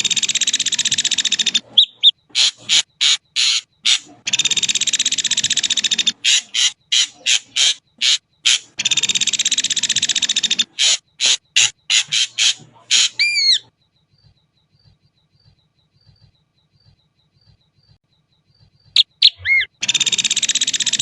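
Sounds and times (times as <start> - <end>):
bird song trills and whistles: 0.0 - 21.0.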